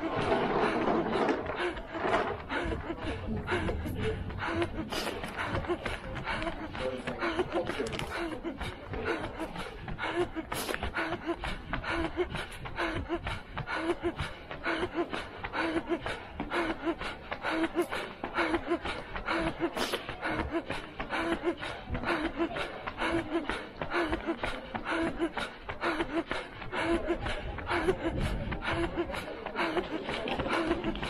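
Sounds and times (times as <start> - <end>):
hard rhythmic breathing: 0.0 - 31.0
running footsteps on stone: 0.0 - 31.0.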